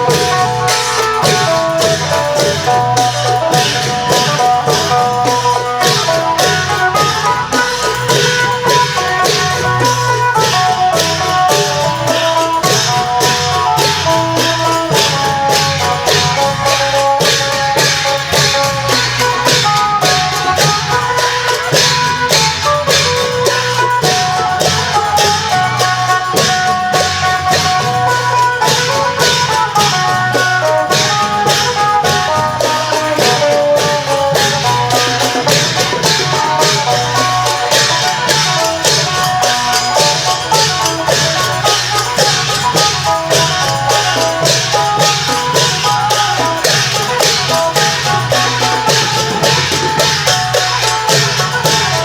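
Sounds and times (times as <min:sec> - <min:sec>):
cymbals: 0:00.0 - 0:52.0
long drums beating: 0:00.0 - 0:52.0.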